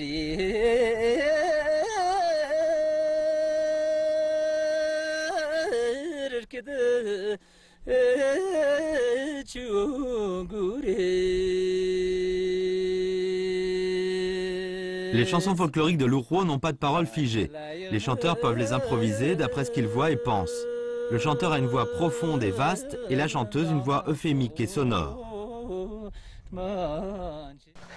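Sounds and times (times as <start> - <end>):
unaccompanied folk singing: 0.0 - 15.7, 17.2 - 27.9.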